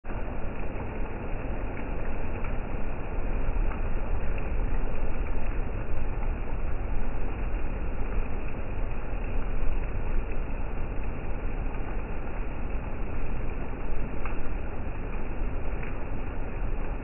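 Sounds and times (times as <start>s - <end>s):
low rumbling rainstorm: 0.0s - 17.0s.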